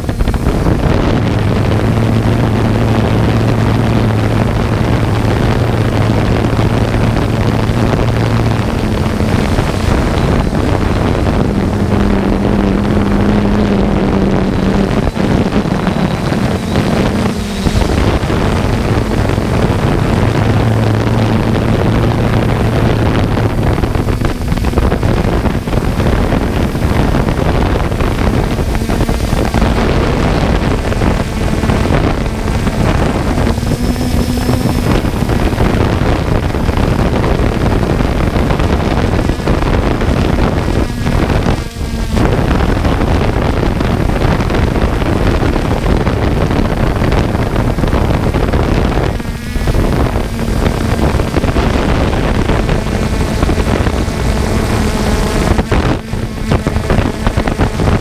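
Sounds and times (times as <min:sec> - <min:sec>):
drone motors humming: 0:00.0 - 0:58.0
wind rushing over microphone: 0:00.0 - 0:58.0.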